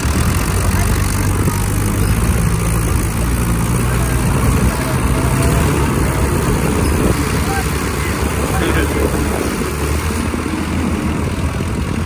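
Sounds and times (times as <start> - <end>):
tractor diesel engines running: 0.0 - 12.0.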